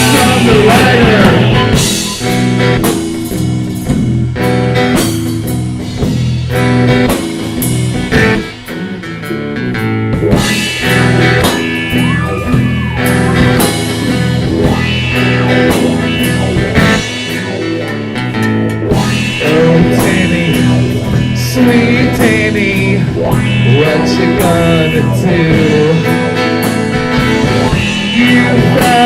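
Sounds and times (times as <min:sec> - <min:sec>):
bending guitar note: 0:00.0 - 0:03.6, 0:08.1 - 0:29.0
rock band playing: 0:00.0 - 0:29.0.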